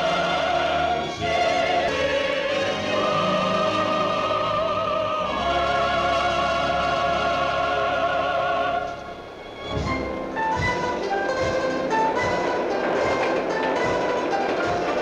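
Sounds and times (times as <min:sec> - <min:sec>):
orchestral cartoon music: 0:00.0 - 0:15.0.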